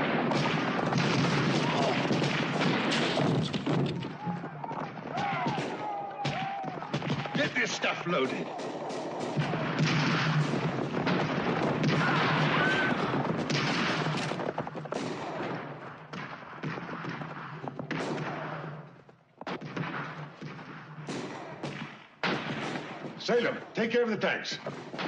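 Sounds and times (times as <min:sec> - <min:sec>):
rifle and machine-gun fire: 0:00.0 - 0:23.8, 0:24.6 - 0:25.0.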